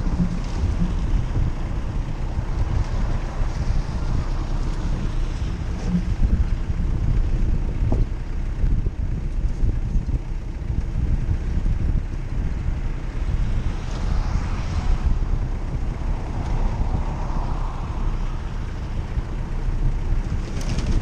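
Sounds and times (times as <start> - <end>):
vehicle low rumble: 0.0 - 21.0
wind buffeting microphone: 0.0 - 21.0.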